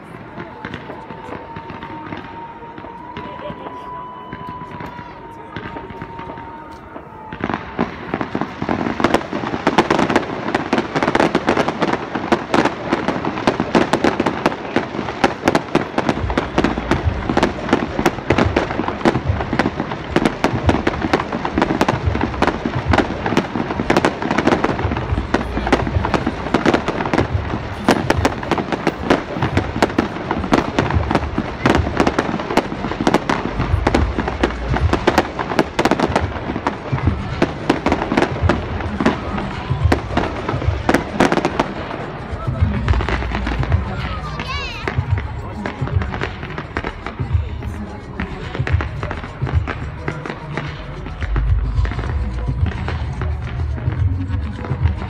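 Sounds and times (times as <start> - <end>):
deep firework booms: 0.0 - 55.0
fireworks crackling: 0.0 - 55.0.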